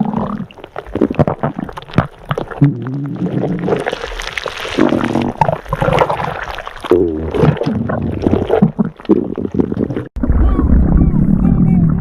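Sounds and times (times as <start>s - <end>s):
stomach growling and gurgling: 0.0s - 12.0s.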